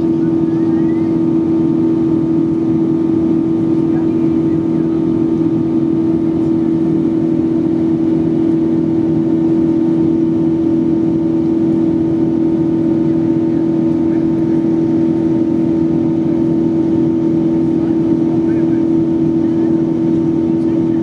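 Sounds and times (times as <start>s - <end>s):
airplane engine drone: 0.0s - 21.0s.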